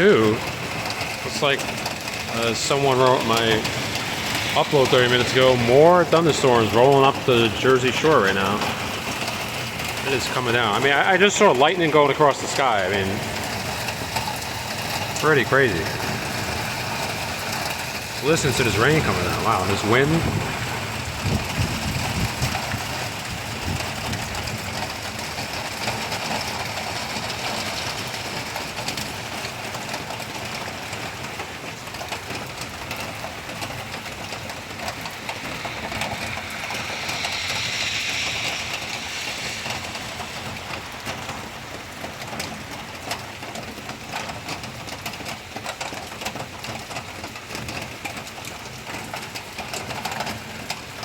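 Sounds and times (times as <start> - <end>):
heavy rain pouring: 0.0 - 51.0
wind: 0.0 - 51.0.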